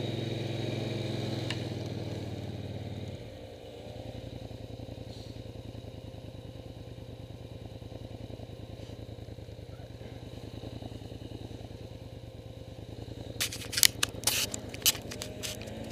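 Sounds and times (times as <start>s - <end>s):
quad bike engine running: 0.0s - 15.9s.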